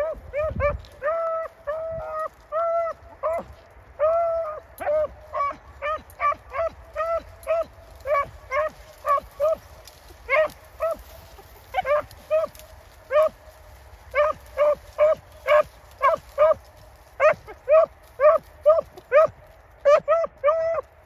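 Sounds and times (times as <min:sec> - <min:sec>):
dogs barking: 0:00.0 - 0:20.9.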